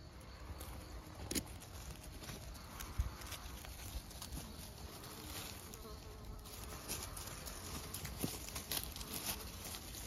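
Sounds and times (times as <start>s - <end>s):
twigs crackling: 0.0s - 10.0s.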